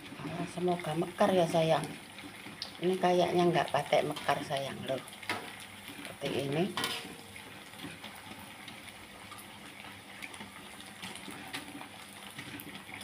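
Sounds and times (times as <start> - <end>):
faint crackles: 0.0 - 13.0
oil sizzling in a wok: 0.0 - 13.0.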